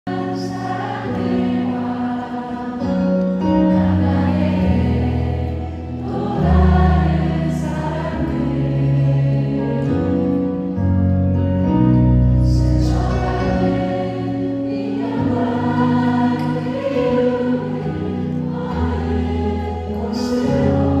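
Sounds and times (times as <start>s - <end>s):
male vocal quartet singing: 0.1s - 10.8s, 12.4s - 21.0s.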